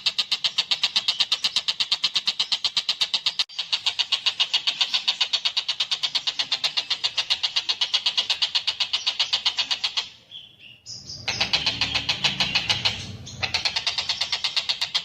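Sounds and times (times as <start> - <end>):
kingfisher rattling call: 0.0 - 10.2, 11.2 - 15.0.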